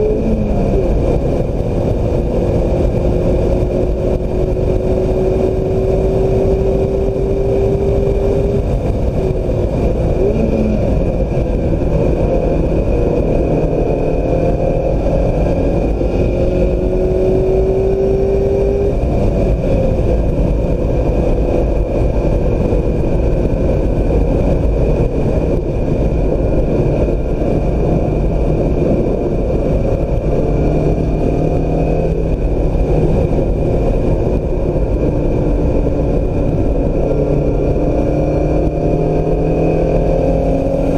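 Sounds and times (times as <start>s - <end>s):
car engine revving: 0.0s - 40.9s
wind and road noise: 0.0s - 40.9s.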